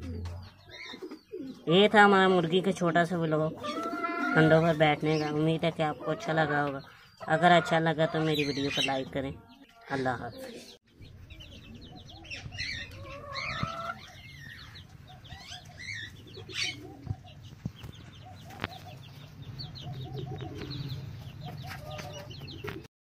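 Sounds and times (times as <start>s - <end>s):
chickens clucking: 0.0s - 22.9s
small birds chirping: 0.0s - 22.9s.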